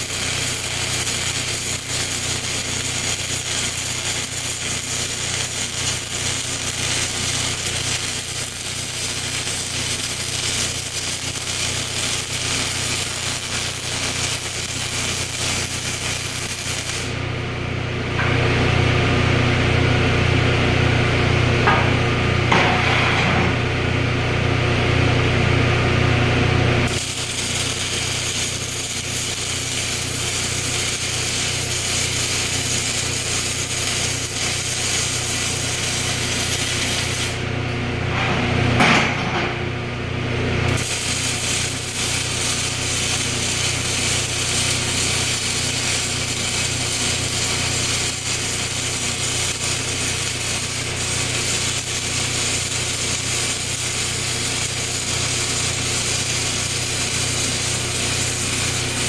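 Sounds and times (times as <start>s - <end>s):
arc welding hiss and hum: 0.0s - 23.9s, 24.6s - 59.0s.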